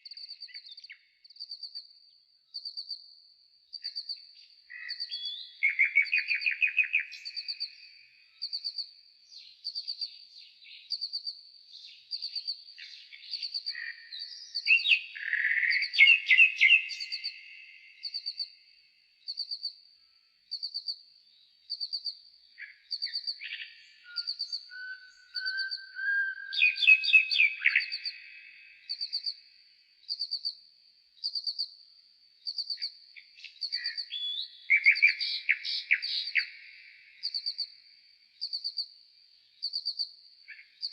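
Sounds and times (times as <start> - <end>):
slowed nightingale song: 0.0 - 40.9.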